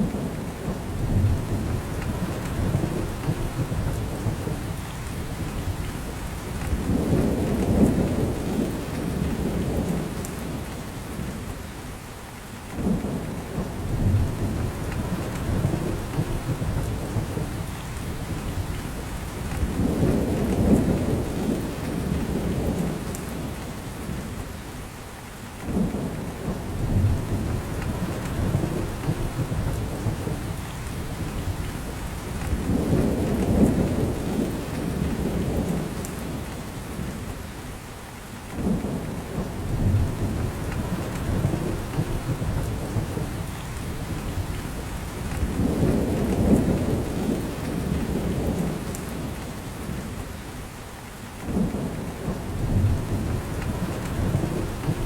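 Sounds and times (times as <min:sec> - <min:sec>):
rain falling through forest: 0:00.0 - 0:55.0.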